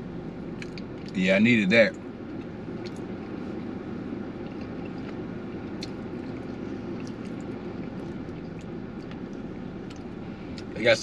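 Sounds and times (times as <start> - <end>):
city background rumble: 0.0 - 11.0.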